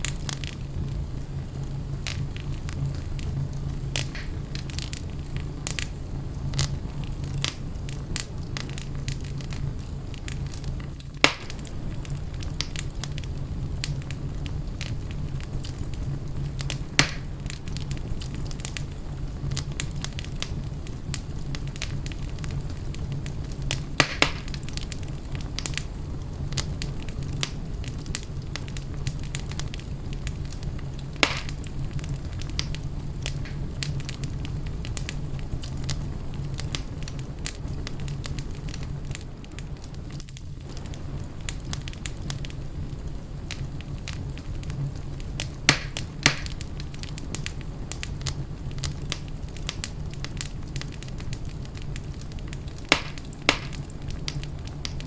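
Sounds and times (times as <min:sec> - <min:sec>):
fire crackling in fireplace: 0:00.0 - 0:55.0
loud pops of fire: 0:00.0 - 0:55.0
low rumble of fire: 0:00.0 - 0:55.0.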